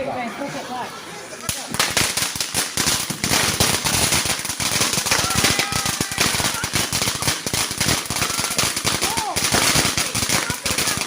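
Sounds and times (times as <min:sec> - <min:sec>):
fireworks crackling: 0:01.3 - 0:11.0.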